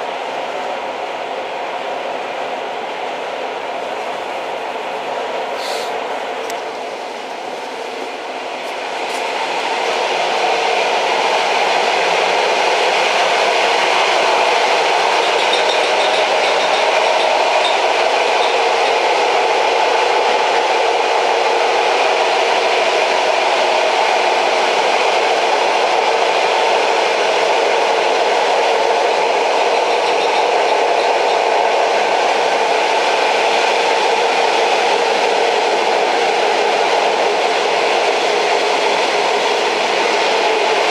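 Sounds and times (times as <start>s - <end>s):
train running: 0.0s - 40.9s.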